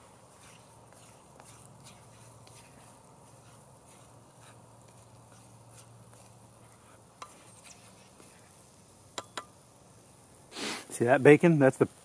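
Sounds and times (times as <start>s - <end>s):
eggs frying in a skillet: 0.0s - 12.0s.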